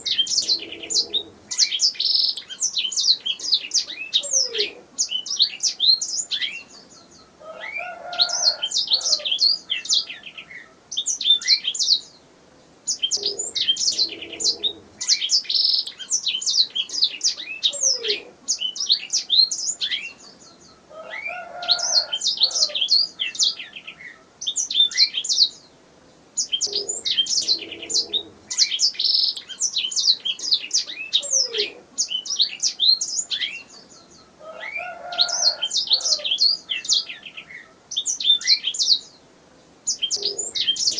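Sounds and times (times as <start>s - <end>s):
canary singing trills: 0.0s - 12.2s, 12.8s - 40.9s.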